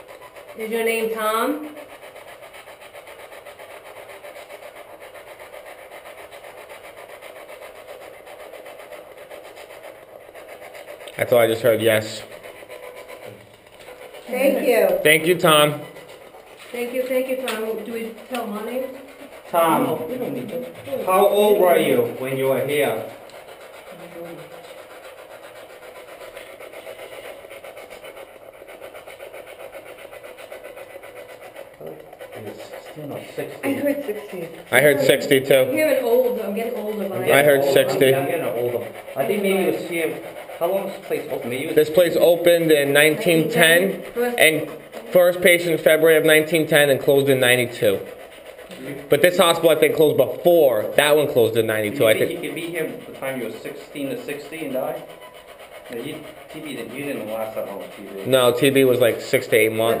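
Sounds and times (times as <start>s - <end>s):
static hiss with flutter: 0.0s - 60.0s.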